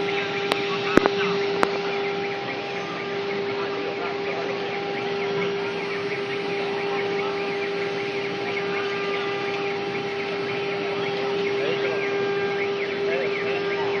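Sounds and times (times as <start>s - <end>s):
axis motors pitch glides: 0.0s - 14.0s
cnc router spindle whine: 0.0s - 14.0s.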